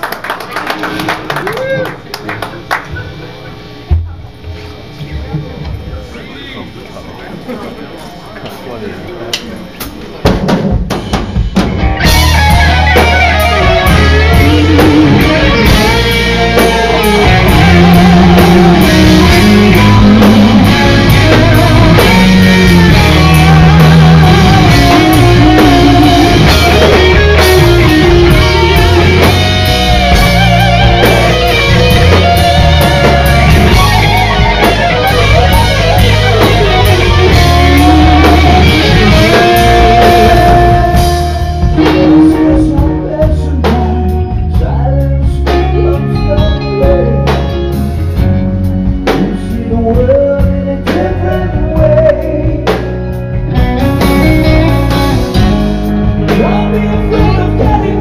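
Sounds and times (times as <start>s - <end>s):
live rock band playing: 9.8s - 58.0s
lead electric guitar melody: 11.4s - 58.0s.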